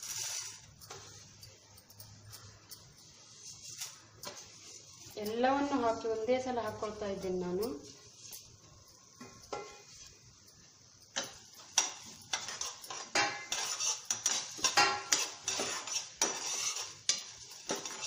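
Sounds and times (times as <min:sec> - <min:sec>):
metal spoon scraping a pan: 0:00.0 - 0:18.0.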